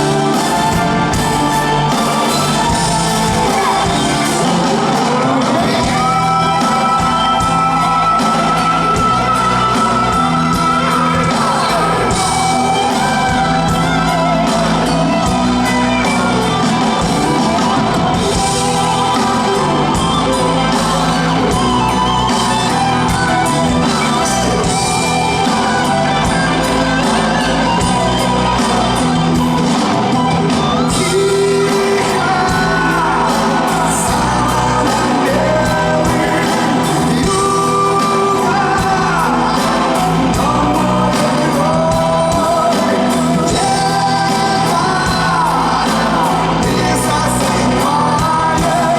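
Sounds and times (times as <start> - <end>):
live song with singing: 0.0 - 48.9.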